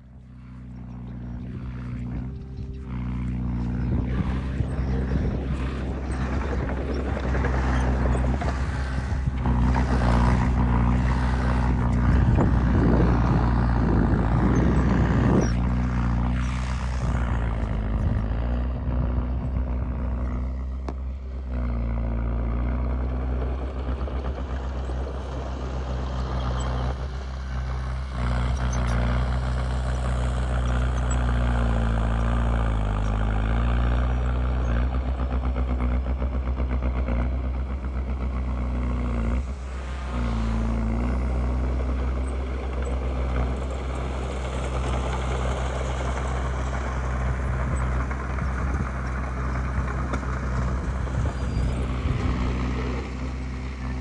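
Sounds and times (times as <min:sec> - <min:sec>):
bulldozer diesel engine running: 0:00.0 - 0:54.0
tracks grinding and clattering: 0:00.0 - 0:54.0.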